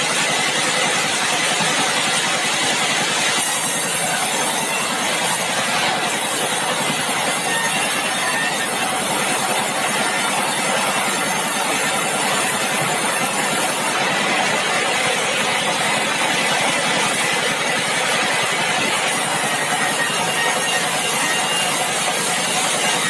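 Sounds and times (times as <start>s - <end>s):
sawmill machinery running: 0.0s - 23.0s.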